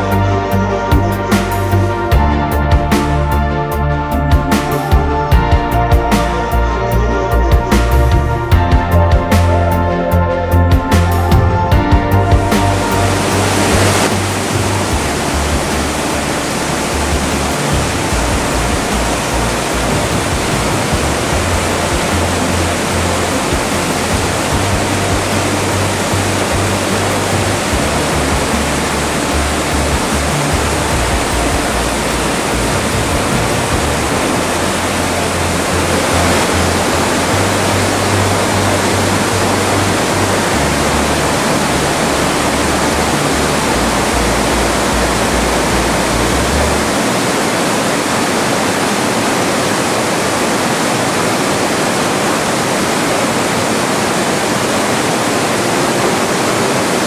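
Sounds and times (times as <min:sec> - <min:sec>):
background music with bass line: 0:00.0 - 0:47.0
water rushing down a waterfall: 0:10.9 - 0:57.0.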